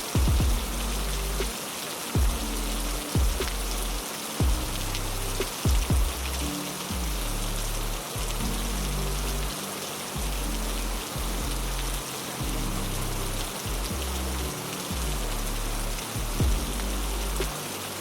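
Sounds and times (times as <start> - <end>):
heavy rain: 0.0 - 18.0
low bass background music: 0.0 - 18.0.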